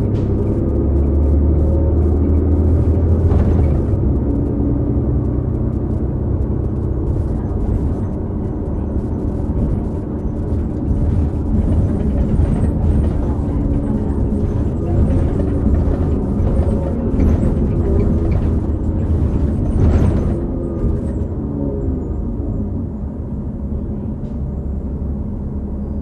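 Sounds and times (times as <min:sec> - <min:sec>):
transmission whine: 0:00.0 - 0:21.3
bus engine drone: 0:00.0 - 0:26.0.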